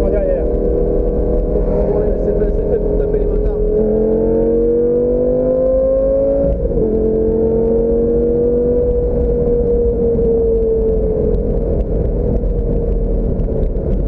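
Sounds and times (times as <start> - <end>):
sports car engine accelerating: 0.0 - 14.0
wind rumble in cabin: 0.0 - 14.0.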